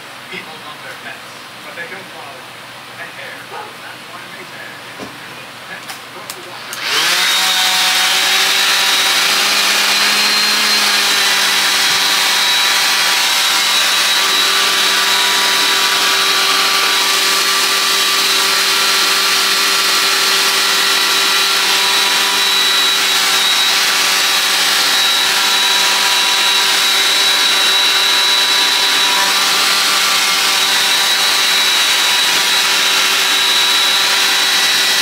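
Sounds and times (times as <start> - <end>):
hair dryer running: 6.2 - 35.0.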